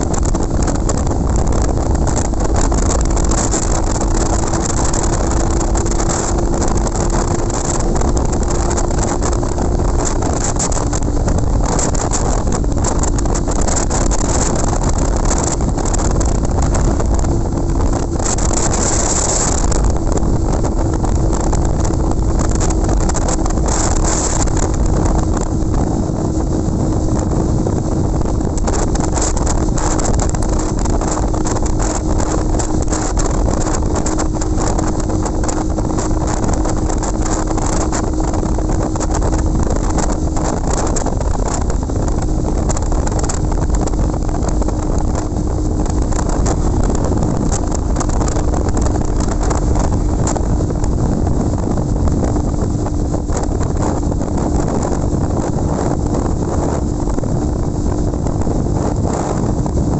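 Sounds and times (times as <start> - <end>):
motorcycle engine: 0.0 - 59.9
wind buffeting microphone: 0.0 - 59.9.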